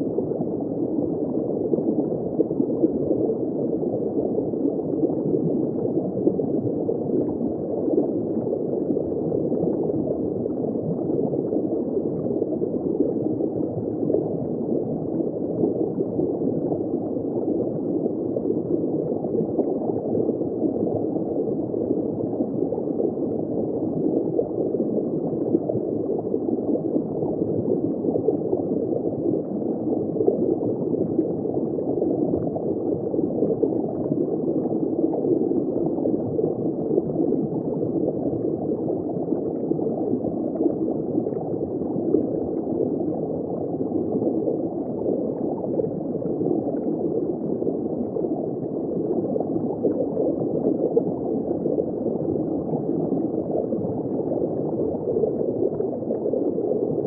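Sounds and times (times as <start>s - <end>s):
muffled underwater bubbling: 0.0s - 57.0s.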